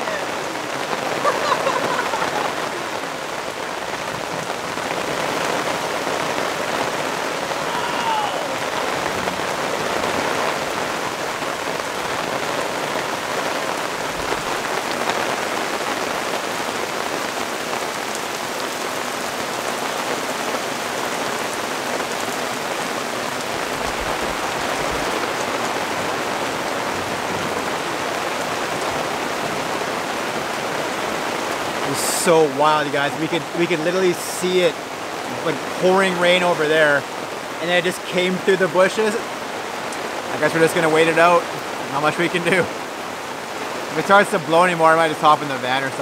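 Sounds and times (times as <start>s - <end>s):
heavy rain on foliage: 0.0s - 46.0s.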